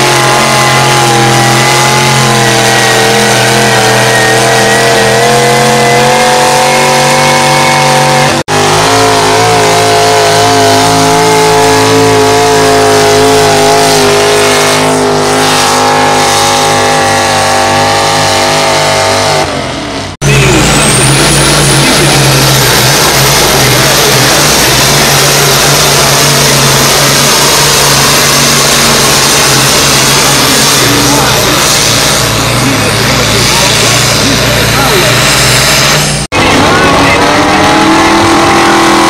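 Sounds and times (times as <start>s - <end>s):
engine high whine: 0.0s - 39.0s
engine running hard under load: 0.0s - 39.0s.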